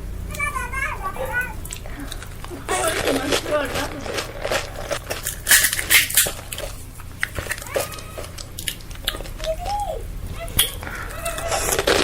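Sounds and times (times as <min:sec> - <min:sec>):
crisp shells crunching when chewed: 0:01.6 - 0:09.9, 0:10.6 - 0:12.0.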